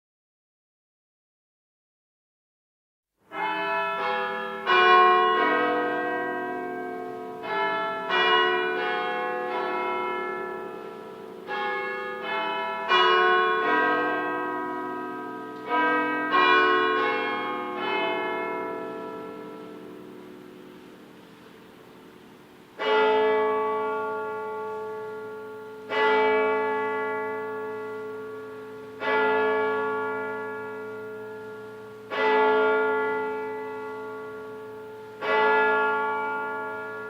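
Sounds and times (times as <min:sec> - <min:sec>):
bells ringing: 0:03.3 - 0:37.0.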